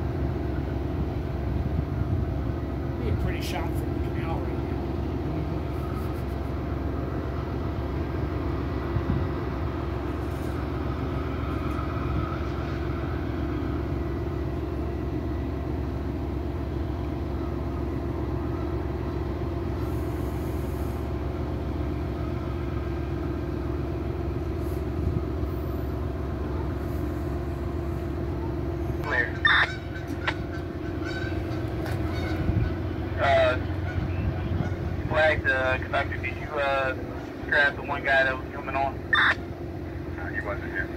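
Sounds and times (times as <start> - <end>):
diesel locomotives idling: 0.0 - 40.9.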